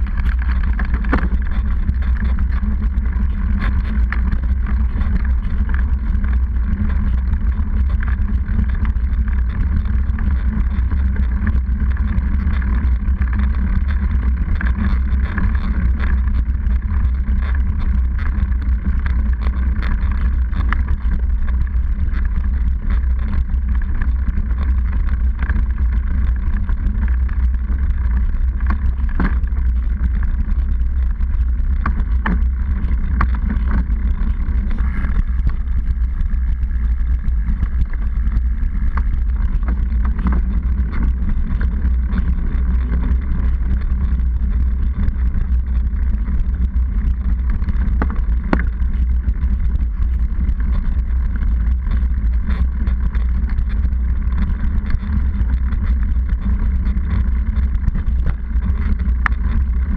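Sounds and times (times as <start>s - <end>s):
bike rattles and clicks: 0.0s - 59.9s
bike tyre rolling on concrete: 0.0s - 59.9s
wind on microphone: 0.0s - 59.9s.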